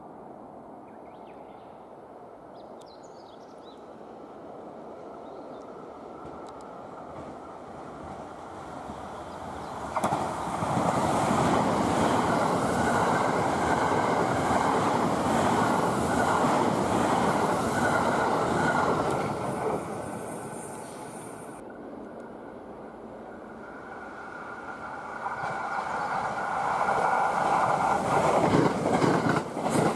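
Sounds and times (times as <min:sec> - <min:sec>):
train passing at speed: 0:03.3 - 0:29.9.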